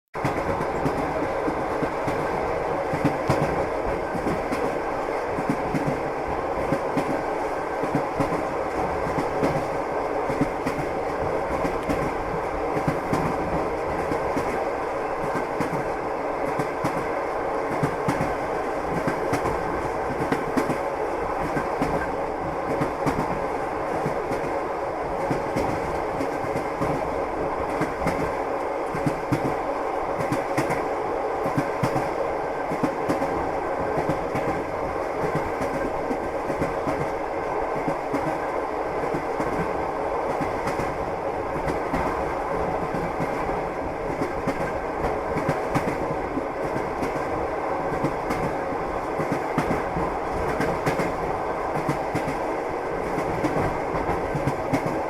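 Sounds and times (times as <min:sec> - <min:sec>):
electric train rumbling: 0:00.2 - 0:55.0.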